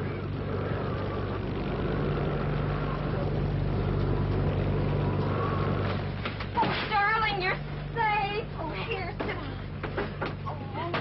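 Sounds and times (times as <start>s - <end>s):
low drone: 0.0s - 10.8s.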